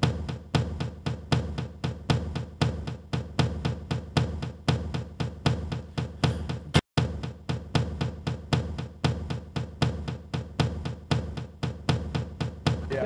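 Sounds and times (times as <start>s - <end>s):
heavy drum beat: 0.0s - 13.0s.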